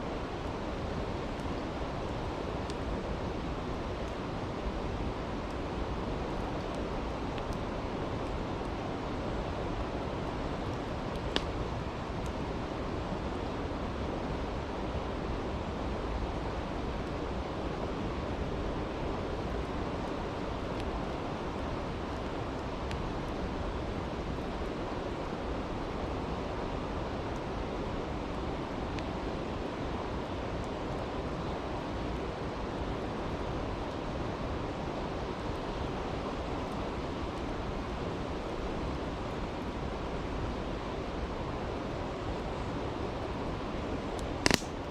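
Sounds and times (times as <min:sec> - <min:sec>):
campfire crackling: 0:00.1 - 0:44.9.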